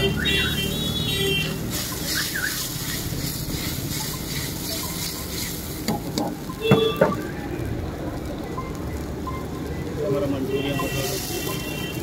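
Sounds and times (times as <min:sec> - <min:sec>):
liquid sizzling in a wok: 0:00.0 - 0:12.0.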